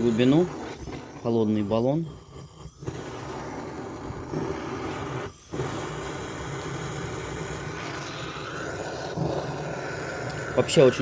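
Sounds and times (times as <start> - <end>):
gas torch flame rushing: 0.0 - 11.0.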